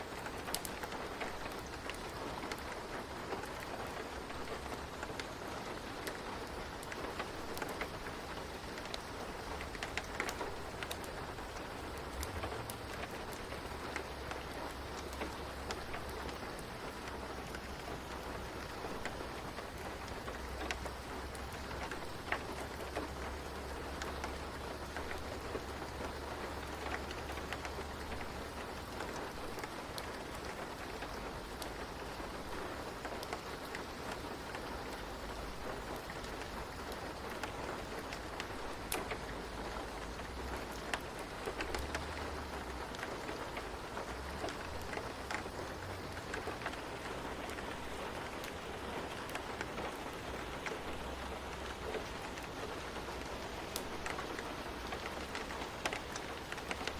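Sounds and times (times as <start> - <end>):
steady rain falling: 0.0 - 56.9
light ticks: 0.1 - 56.9.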